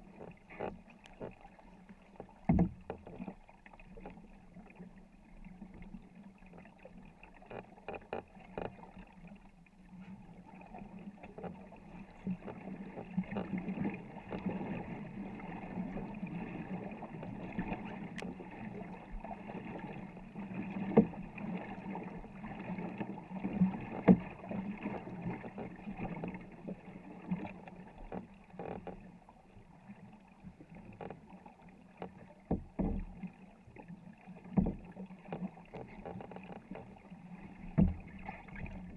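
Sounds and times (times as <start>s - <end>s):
paddles pulling through water: 0.0s - 38.9s
water splashing on wooden hull: 0.0s - 38.9s.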